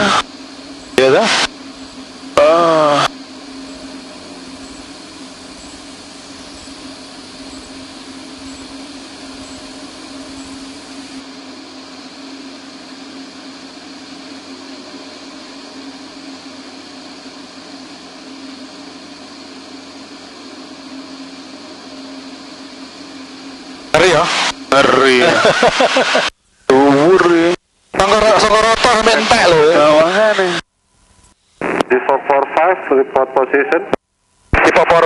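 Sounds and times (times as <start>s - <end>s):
light aircraft engine droning: 0.0s - 35.0s.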